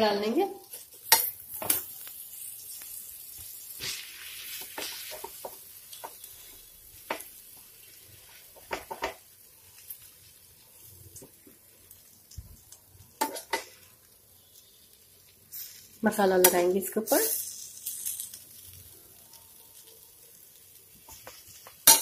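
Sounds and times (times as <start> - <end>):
butter sizzling on griddle: 0.0 - 22.0.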